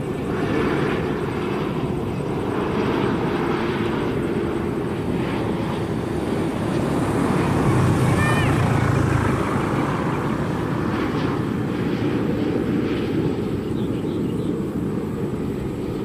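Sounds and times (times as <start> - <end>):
jet engines low rumble: 0.0 - 16.0.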